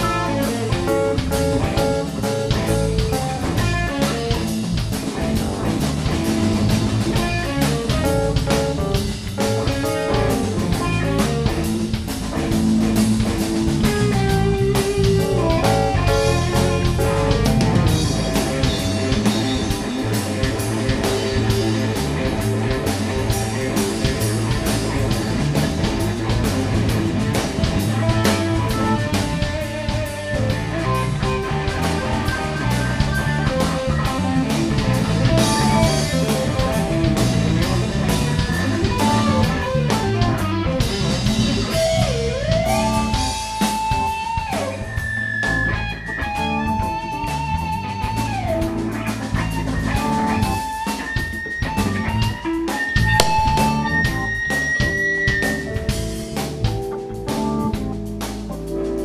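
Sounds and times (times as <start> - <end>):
electric guitar solo: 0.0 - 5.4, 6.2 - 57.7
blues-rock band playing: 0.0 - 59.0.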